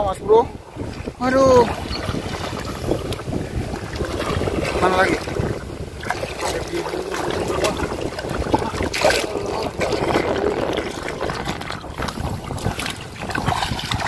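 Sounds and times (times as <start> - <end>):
fish thrashing and splashing: 1.7 - 14.0.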